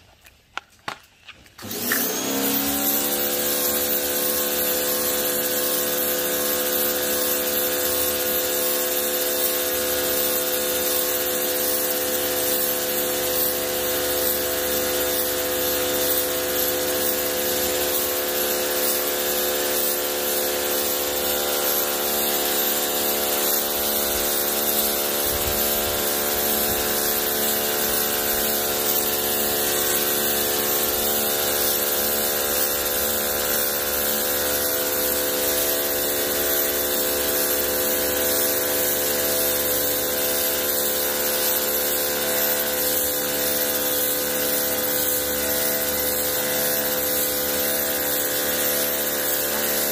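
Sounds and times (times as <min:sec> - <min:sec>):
high-pressure water jet hissing: 0:01.6 - 0:49.9
pressure washer motor humming: 0:01.6 - 0:49.9.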